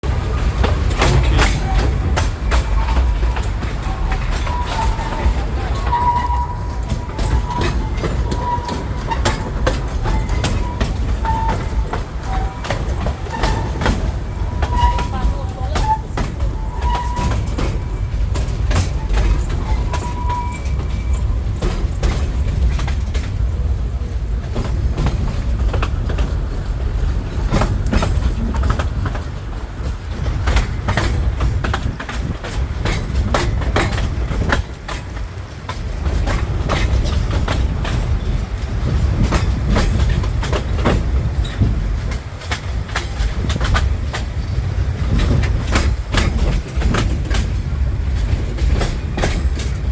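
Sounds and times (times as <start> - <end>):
steam train rumbling: 0.0 - 49.9
wheels clattering over rail joints: 0.0 - 49.9.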